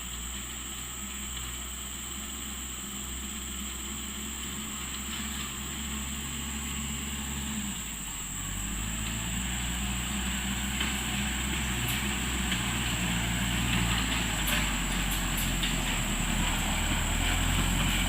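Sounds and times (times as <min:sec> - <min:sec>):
fertilizer spreader engine running: 0:00.0 - 0:18.0.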